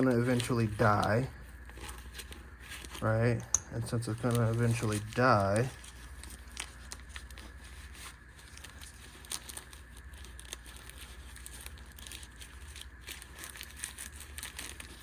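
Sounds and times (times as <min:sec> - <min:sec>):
rustling and crinkling: 0:00.0 - 0:15.0
steady low hum: 0:00.0 - 0:15.0.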